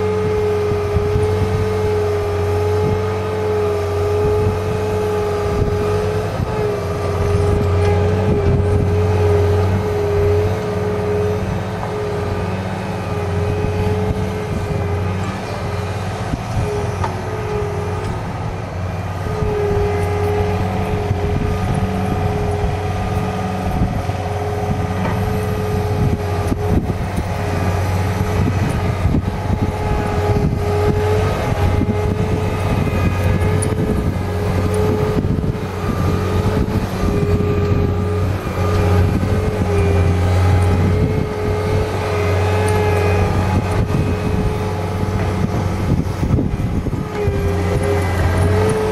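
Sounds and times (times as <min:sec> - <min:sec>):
diesel engine running under load: 0:00.0 - 0:48.9.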